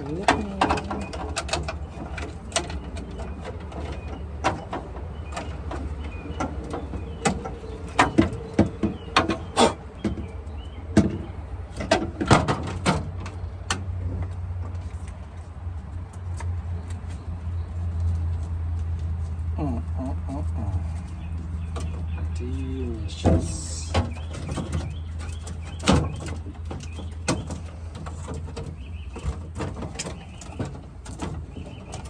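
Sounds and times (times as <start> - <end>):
clicks and knocks of parts: 0.0 - 19.6, 20.9 - 32.0.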